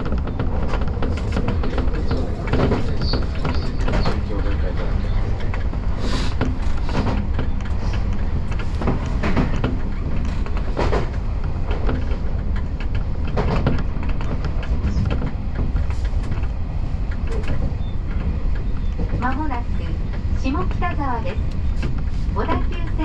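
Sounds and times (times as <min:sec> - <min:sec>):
rail clicks and knocks: 0:00.0 - 0:23.0
train wheels rumbling on rails: 0:00.0 - 0:23.0.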